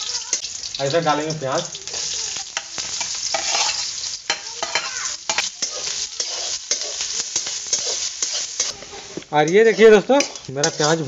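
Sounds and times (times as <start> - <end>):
onions sizzling in hot oil: 0.0 - 11.0
metal ladle scraping a pan: 1.6 - 11.0.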